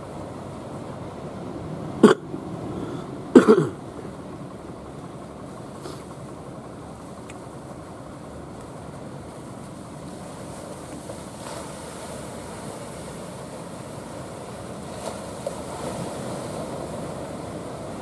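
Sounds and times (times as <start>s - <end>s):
boat engine running: 0.0s - 18.0s
waves washing: 0.0s - 18.0s.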